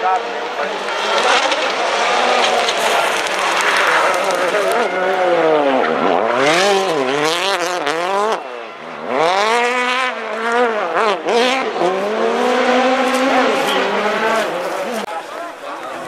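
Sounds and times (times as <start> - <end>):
rally car engine revving hard: 0.4 - 15.1.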